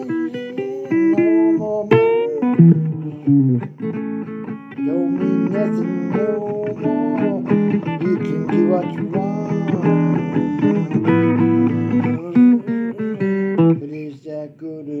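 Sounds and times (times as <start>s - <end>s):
blues guitar playing: 0.0s - 14.4s.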